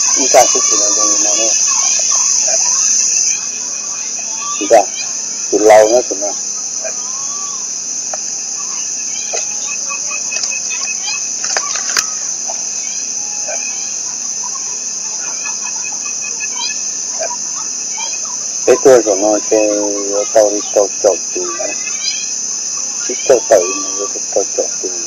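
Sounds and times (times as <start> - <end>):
faint insect chirps and clicks: 0.0 - 25.0
insects droning: 0.0 - 25.0
loud repeated pitched calls: 0.0 - 25.0.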